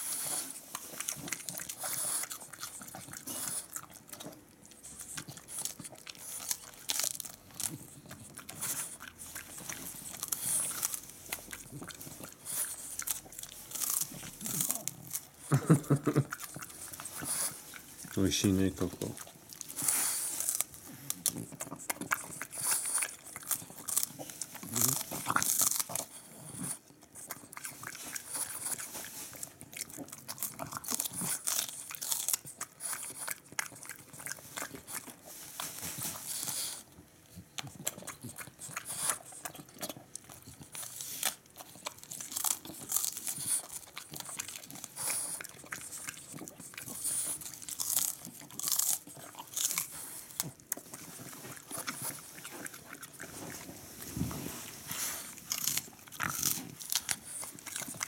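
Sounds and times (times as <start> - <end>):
dog chewing cabbage leaf: 0.0 - 58.0.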